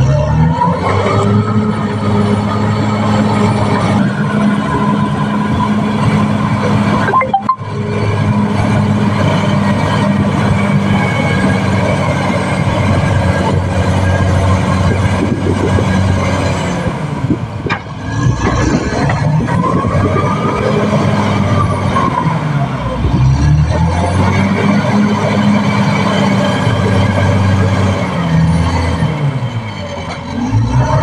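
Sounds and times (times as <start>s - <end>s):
bulldozer diesel engine under load: 0.0s - 31.0s.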